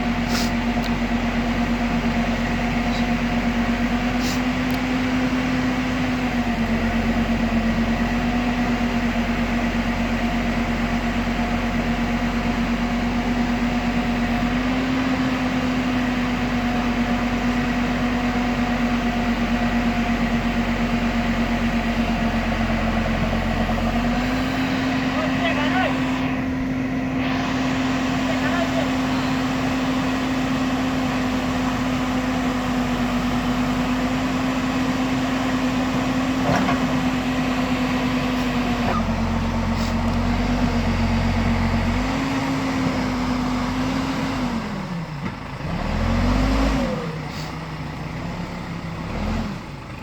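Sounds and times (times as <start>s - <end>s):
diesel engine humming: 0.0s - 50.0s.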